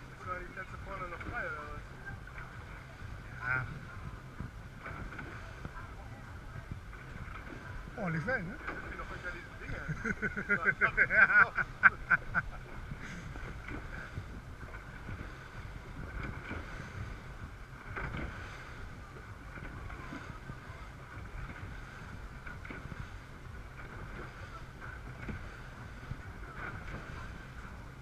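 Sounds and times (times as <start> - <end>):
outboard engines droning: 0.0 - 28.0
water rushing along hull: 0.0 - 28.0
water slapping hull: 0.0 - 28.0
wind buffeting microphone: 0.0 - 28.0.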